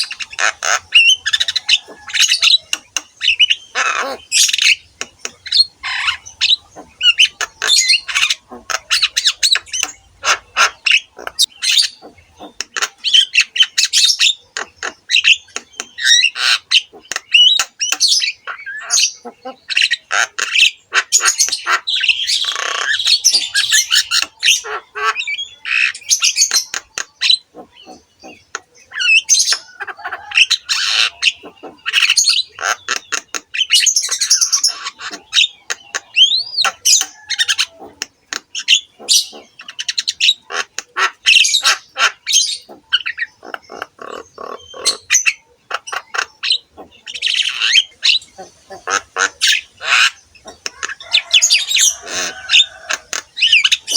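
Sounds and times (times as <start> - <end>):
myna singing harsh squawks: 0.0 - 53.9.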